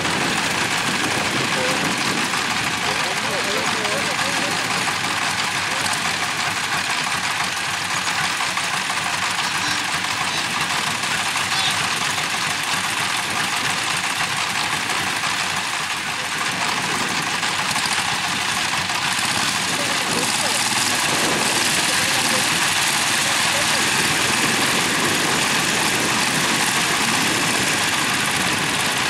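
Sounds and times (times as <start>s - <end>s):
diesel tractor engine running: 0.0s - 29.0s.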